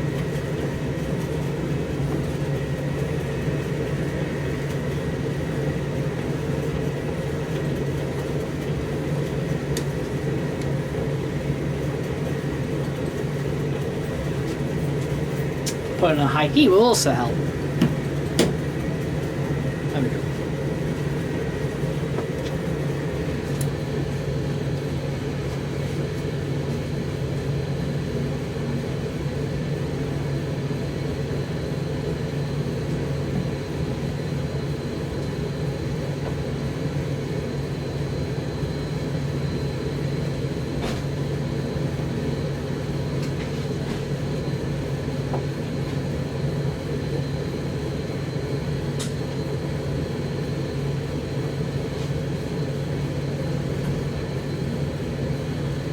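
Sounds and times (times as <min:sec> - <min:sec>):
tumble dryer humming: 0:00.0 - 0:55.9.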